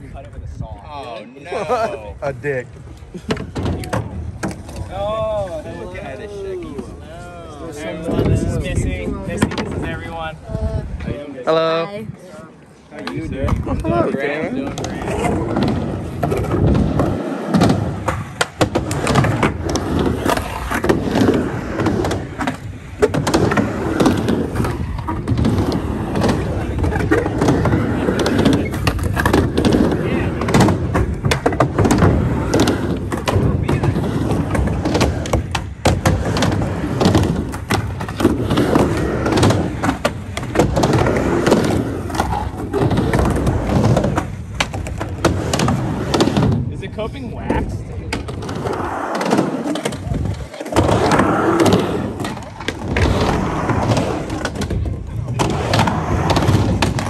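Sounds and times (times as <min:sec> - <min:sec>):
skateboard wheel rumble: 0:00.0 - 0:57.0
skateboard clacks: 0:02.8 - 0:05.4, 0:12.9 - 0:57.0.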